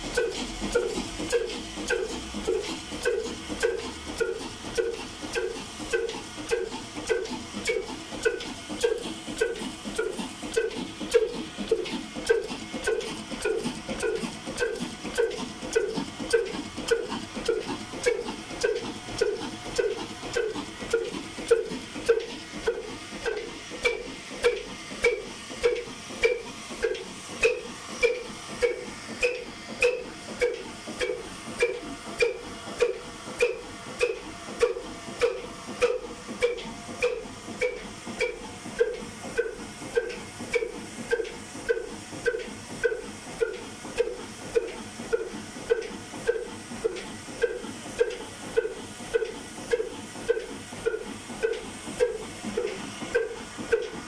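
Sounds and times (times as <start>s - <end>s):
diesel engine slow exhaust puffs: 0.0s - 54.0s.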